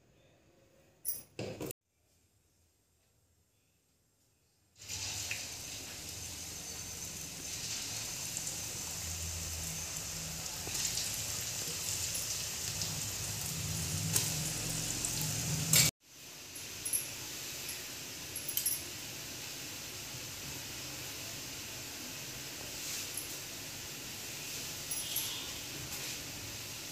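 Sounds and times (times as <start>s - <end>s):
food deep-frying in hot oil: 4.8s - 26.9s.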